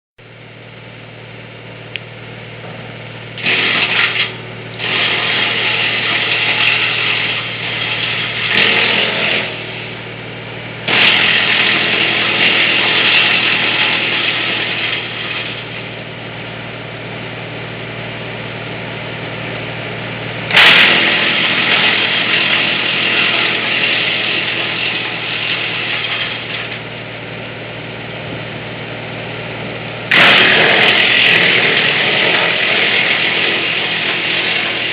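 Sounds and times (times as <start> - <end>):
wood chipper humming: 0.2 - 34.9.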